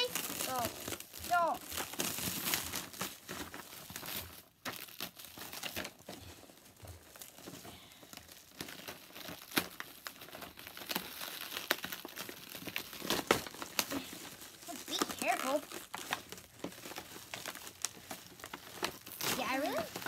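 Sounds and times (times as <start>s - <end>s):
plastic wrap crinkling: 0.0s - 20.0s.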